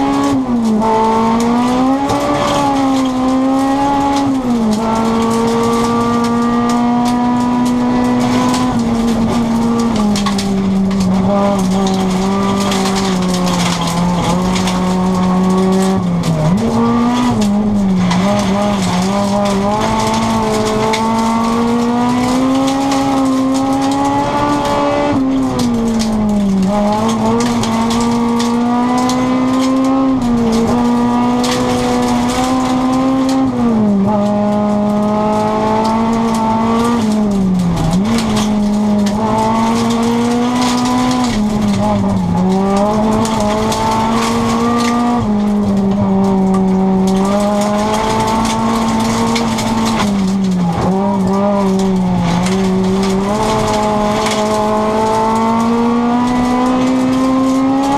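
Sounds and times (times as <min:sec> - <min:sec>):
car engine at high revs: 0:00.0 - 0:57.9
road noise: 0:00.0 - 0:57.9.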